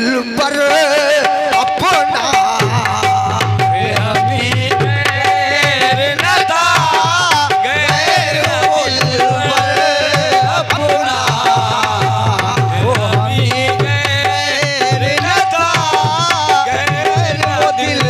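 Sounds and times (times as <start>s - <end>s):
harmonium melody: 0.0s - 18.0s
tabla rhythm: 0.0s - 18.0s.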